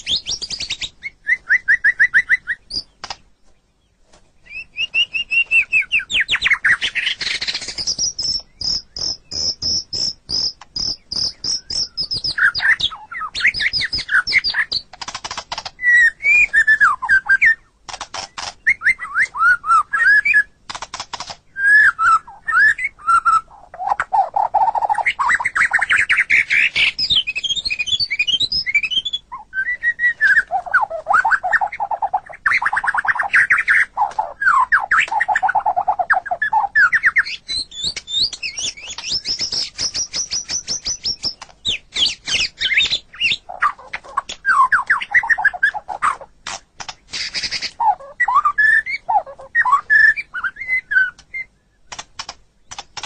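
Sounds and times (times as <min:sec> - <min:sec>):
bird singing varied song: 0:00.0 - 0:53.0.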